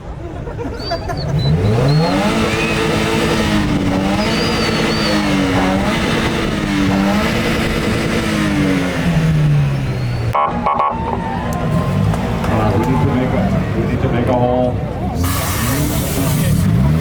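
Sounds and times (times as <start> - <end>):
car engine revving high: 1.2 - 17.0.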